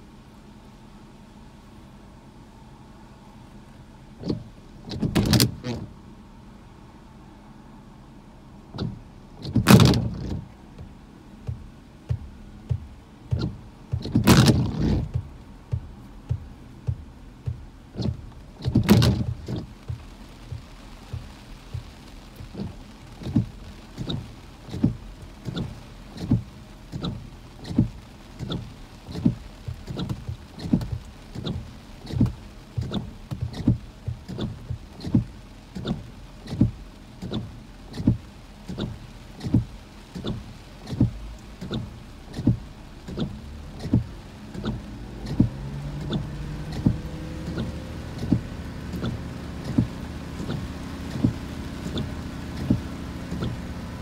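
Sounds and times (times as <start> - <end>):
wind gusts buffeting car: 4.0 - 7.3, 8.5 - 54.0
soft regular thump: 4.2 - 6.0, 8.7 - 54.0.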